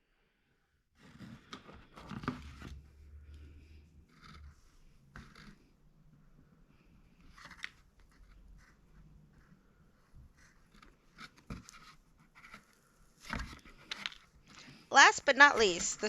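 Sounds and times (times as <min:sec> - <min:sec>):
rustling and scraping handling noise: 0:01.0 - 0:05.8, 0:06.4 - 0:16.0.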